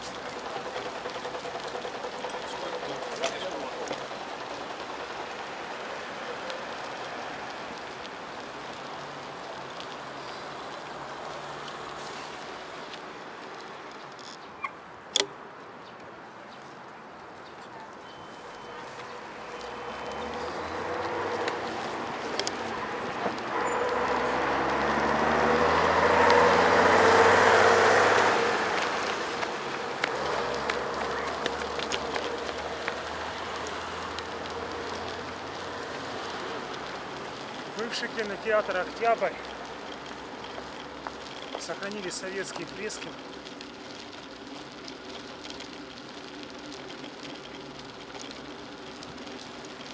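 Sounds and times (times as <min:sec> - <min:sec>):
small clicks and rattles: 0:00.0 - 0:14.5, 0:19.5 - 0:26.5, 0:27.5 - 0:49.9
bicycle tyres hissing on paving: 0:00.0 - 0:14.6, 0:18.3 - 0:49.9
city traffic hum: 0:00.0 - 0:49.9.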